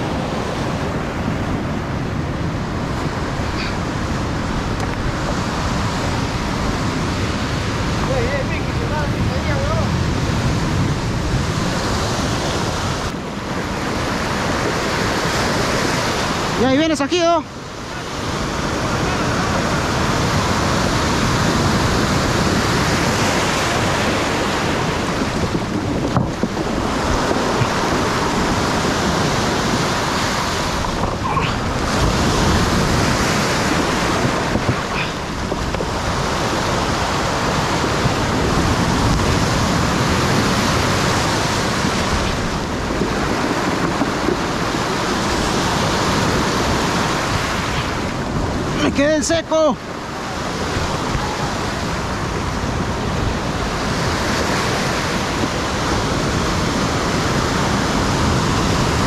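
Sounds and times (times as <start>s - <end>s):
waves breaking: 0.0s - 59.0s.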